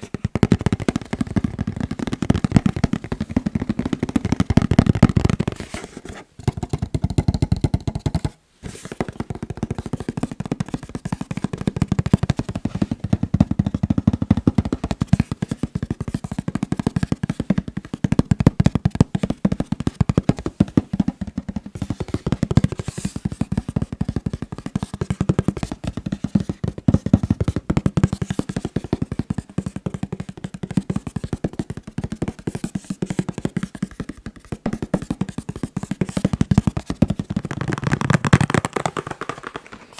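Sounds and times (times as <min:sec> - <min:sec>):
fingertips tapping on a box: 0:00.0 - 0:39.9.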